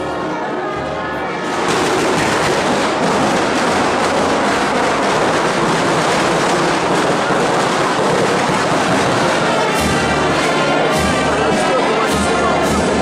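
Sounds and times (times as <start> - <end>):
music: 0.0 - 13.0
firecrackers crackling: 1.4 - 13.0.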